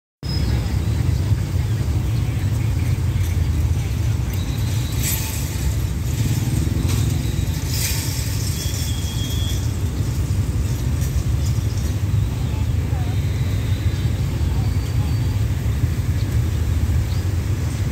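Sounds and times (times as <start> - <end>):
low rumble of road traffic: 0.2 - 17.9.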